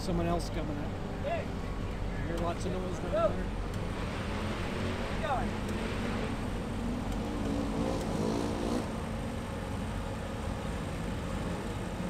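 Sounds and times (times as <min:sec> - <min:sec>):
buggy engines revving: 0:00.0 - 0:12.0.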